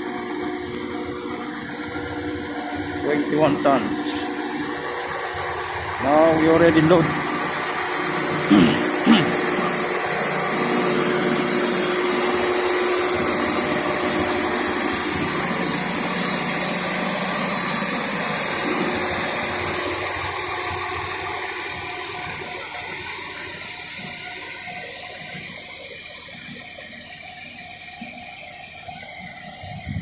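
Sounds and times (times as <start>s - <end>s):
hydraulic hiss and engine: 0.0s - 30.0s.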